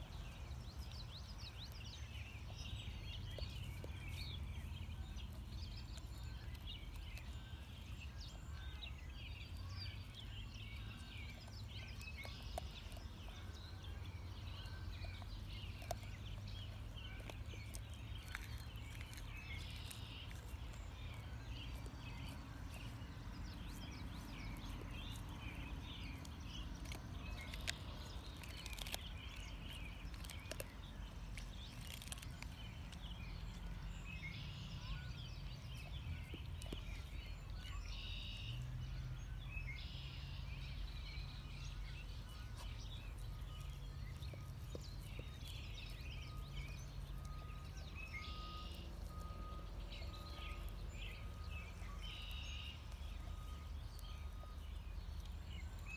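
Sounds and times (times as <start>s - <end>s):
dog chewing and crunching fish: 0.0s - 38.1s, 40.7s - 55.9s
low outdoor background hum: 0.0s - 55.9s.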